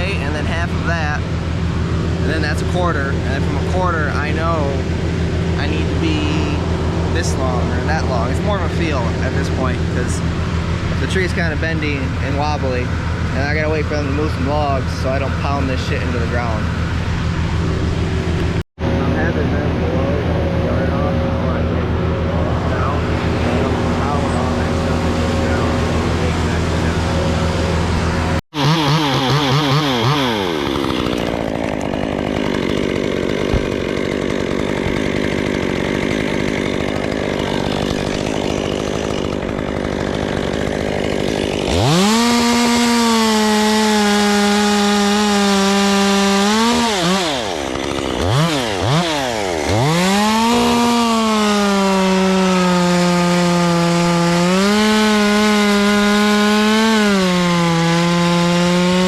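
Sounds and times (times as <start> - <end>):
chainsaw cutting wood: 0.0 - 18.6, 20.4 - 59.0.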